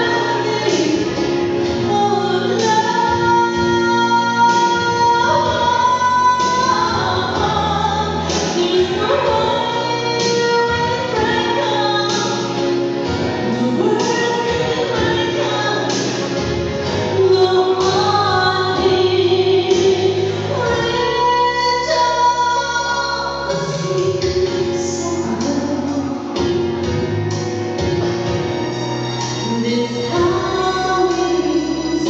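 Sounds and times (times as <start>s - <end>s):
woman singing into microphone: 0.0s - 27.0s, 29.3s - 32.0s
keyboard accompaniment with beat: 0.0s - 32.0s.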